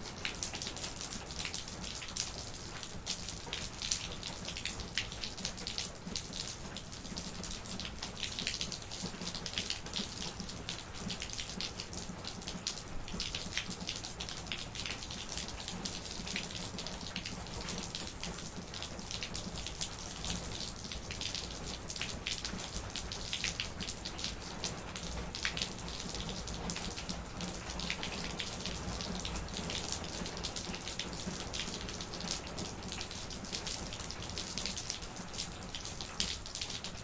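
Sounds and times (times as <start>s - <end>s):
rain pattering: 0.0s - 37.0s.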